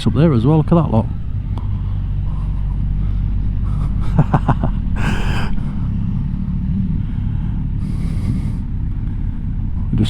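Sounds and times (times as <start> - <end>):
motorcycle engine running: 0.0 - 5.0, 5.6 - 10.0.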